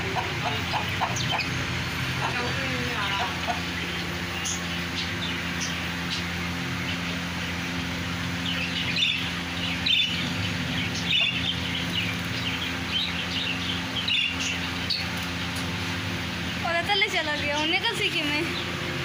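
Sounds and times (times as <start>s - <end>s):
caged birds chirping: 0.0s - 19.0s
steady low hum: 0.0s - 19.0s.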